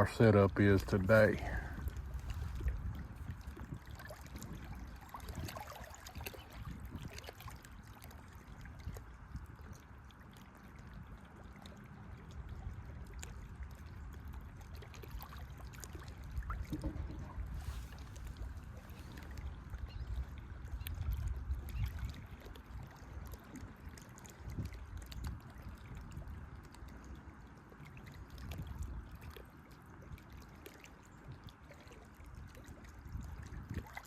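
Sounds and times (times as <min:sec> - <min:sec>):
wind rumble on microphone: 0:00.0 - 0:27.4, 0:28.2 - 0:30.4, 0:31.1 - 0:34.0
water lapping at bank: 0:00.0 - 0:34.0.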